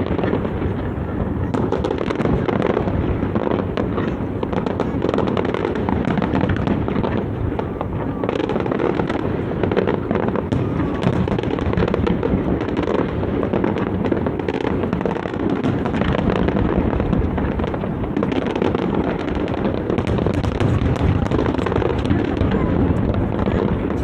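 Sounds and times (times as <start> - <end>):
fireworks booming and crackling: 0.0 - 24.0.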